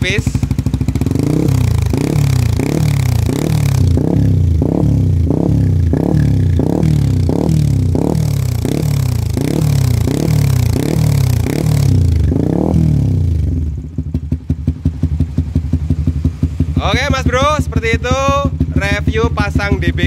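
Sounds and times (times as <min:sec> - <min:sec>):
motorcycle engine idling: 0:00.0 - 0:20.0
motorcycle engine revving: 0:00.0 - 0:20.0.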